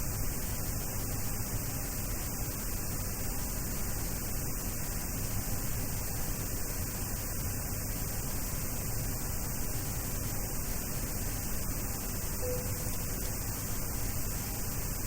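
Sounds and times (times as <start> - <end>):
static-like hiss: 0.0 - 15.0.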